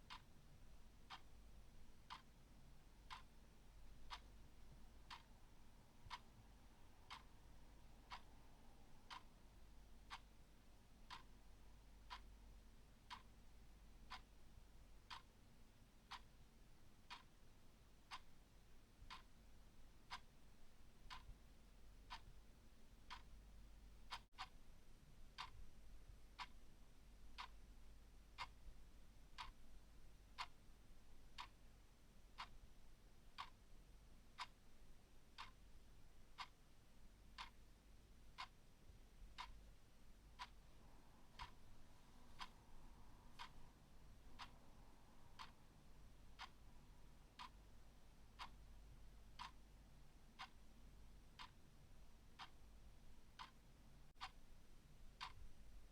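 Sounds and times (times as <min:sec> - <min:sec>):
clock ticking: 0:00.0 - 0:24.6, 0:25.3 - 0:26.7, 0:27.3 - 0:55.9.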